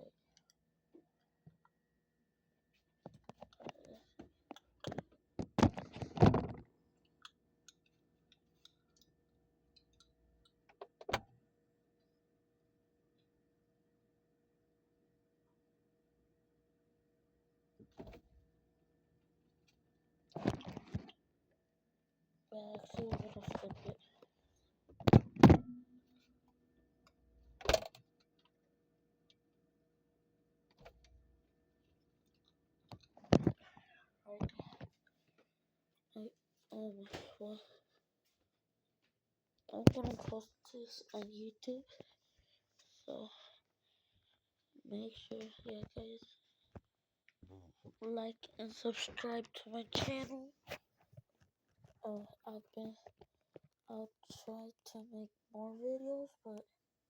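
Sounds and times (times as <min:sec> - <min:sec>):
faint refrigerator hum: 0:00.0 - 0:56.9.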